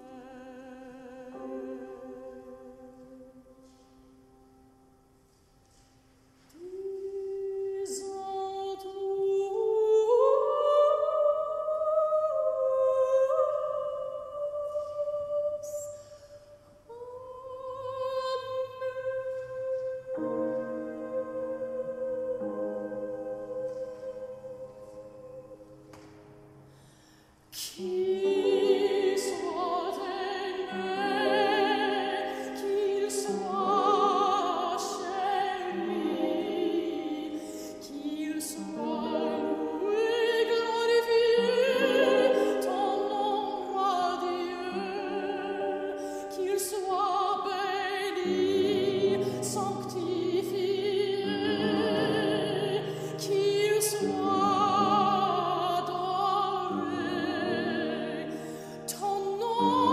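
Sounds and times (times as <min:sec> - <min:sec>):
woman singing operatically: 0:06.6 - 0:25.6, 0:27.6 - 0:59.9.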